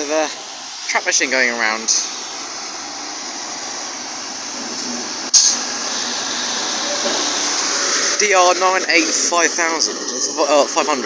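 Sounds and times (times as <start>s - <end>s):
train rushing and rumbling: 0.0s - 11.0s.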